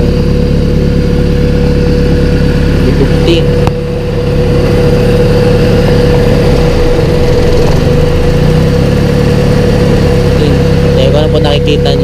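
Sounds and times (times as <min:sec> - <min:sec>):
car engine idling: 0:00.0 - 0:12.0
steady whine: 0:00.0 - 0:12.0.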